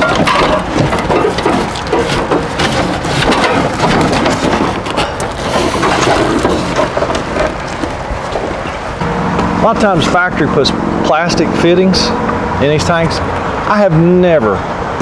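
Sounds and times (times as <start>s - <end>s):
metal case scraping and rattling: 0.0s - 13.6s.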